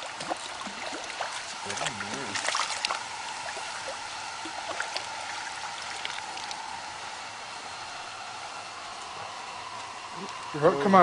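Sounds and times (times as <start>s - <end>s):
river water rushing: 0.0s - 10.6s.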